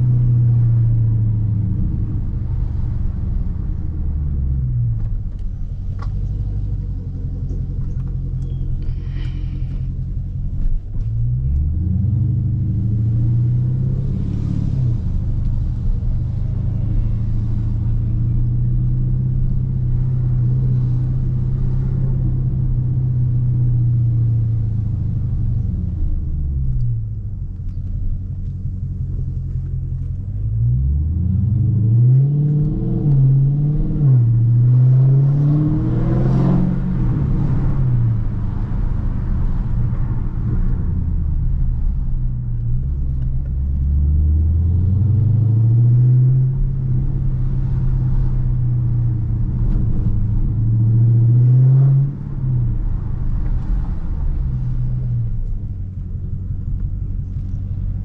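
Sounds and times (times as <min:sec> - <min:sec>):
loud car exhaust while driving: 0:00.0 - 0:58.0.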